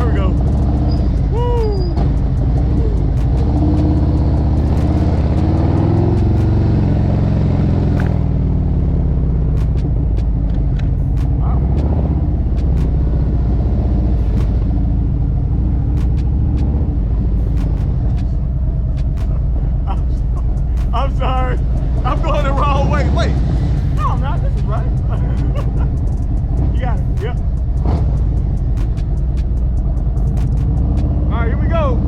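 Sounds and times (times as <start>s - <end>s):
motorcycle engine pulling away: 0.0s - 31.3s.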